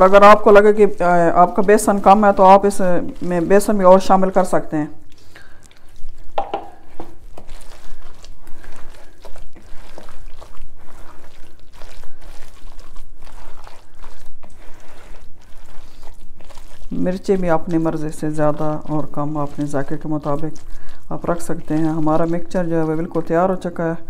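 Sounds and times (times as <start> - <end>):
hand squelching wet batter: 0.0 - 24.0.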